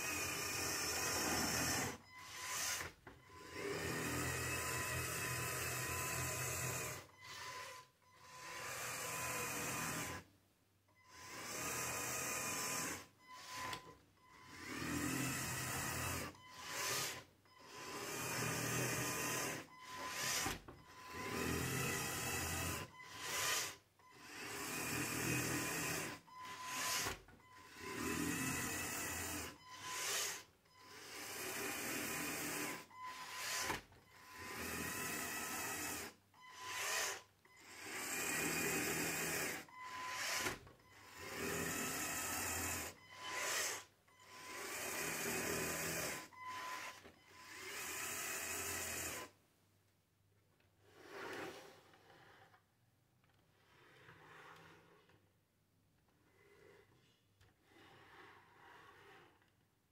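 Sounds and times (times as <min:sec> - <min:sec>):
toy motors and gears whirring: 0:00.0 - 0:10.3, 0:11.0 - 0:49.4.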